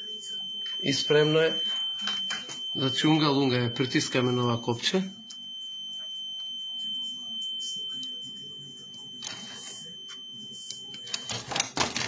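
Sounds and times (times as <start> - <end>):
steady high electronic beep: 0.0 - 11.3.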